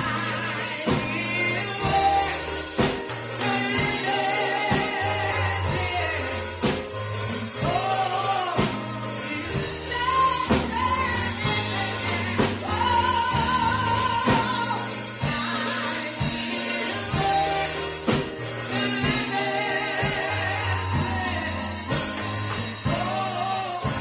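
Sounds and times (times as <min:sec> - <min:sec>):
gospel band with bass: 0:00.0 - 0:24.0.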